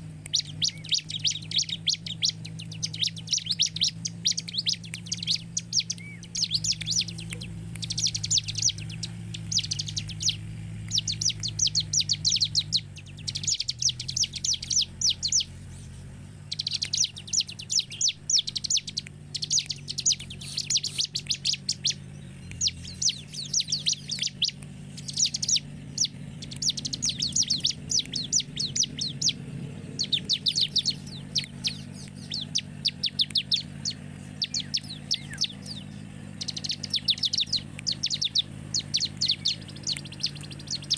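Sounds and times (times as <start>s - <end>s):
bird singing rapid high notes: 0.0s - 40.9s.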